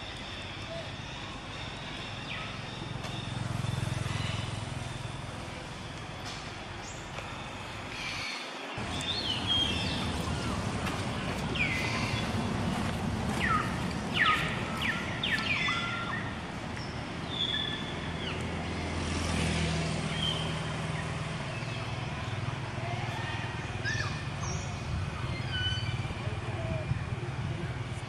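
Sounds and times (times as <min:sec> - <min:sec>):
engine hum: 0:00.0 - 0:08.0, 0:08.8 - 0:28.0
distant traffic rumble: 0:00.0 - 0:28.0.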